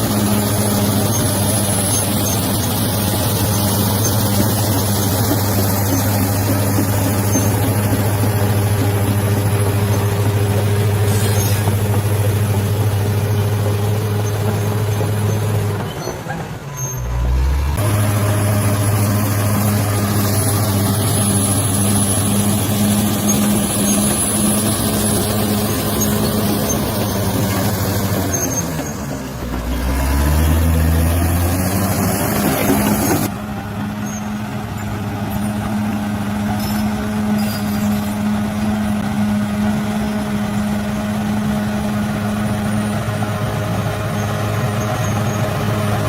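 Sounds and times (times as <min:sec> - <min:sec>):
bulldozer diesel engine: 0:00.0 - 0:46.0.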